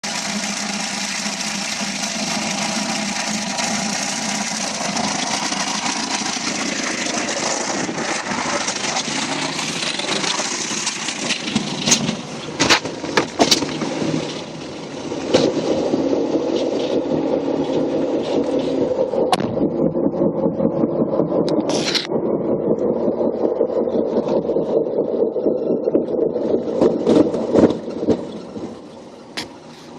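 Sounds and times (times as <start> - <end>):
car road and engine noise: 0.0 - 29.9.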